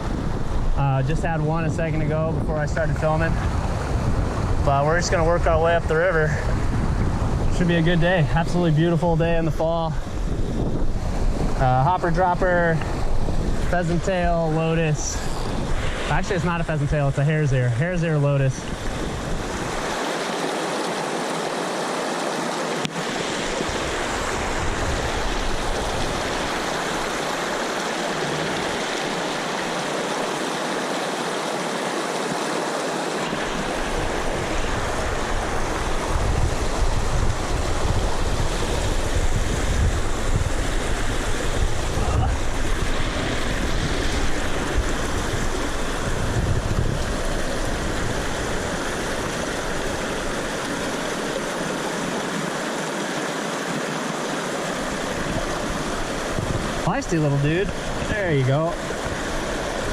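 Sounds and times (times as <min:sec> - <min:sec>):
wind buffeting microphone: 0:00.0 - 0:20.0, 0:23.0 - 0:30.3, 0:33.3 - 0:52.4, 0:54.6 - 0:59.9
creek rushing over rocks: 0:00.0 - 0:59.9.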